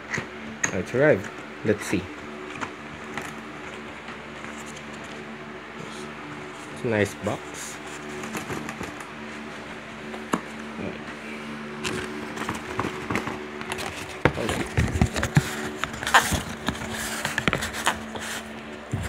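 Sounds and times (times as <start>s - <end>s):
steady low hum: 0.0s - 19.0s
cardboard box handling rustles: 1.9s - 19.0s.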